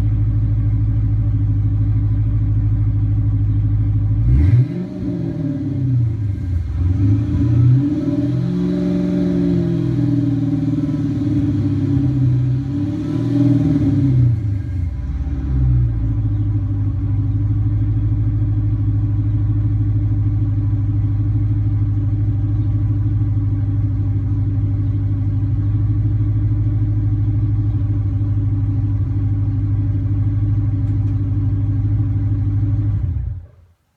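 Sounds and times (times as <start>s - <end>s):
car engine idling: 0.0s - 33.8s.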